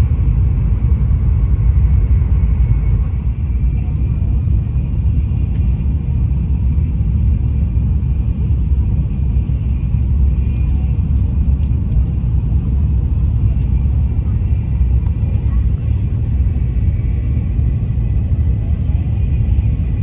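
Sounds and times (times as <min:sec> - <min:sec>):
train running noise from inside: 0:00.0 - 0:20.0.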